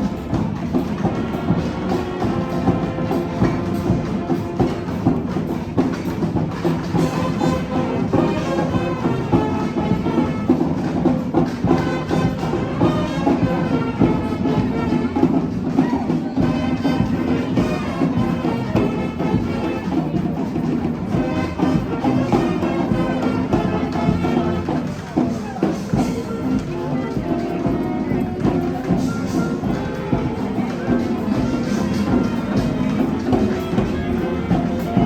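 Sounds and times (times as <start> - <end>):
brass band horns: 0.0 - 35.0
drums keeping steady beat: 0.0 - 35.0.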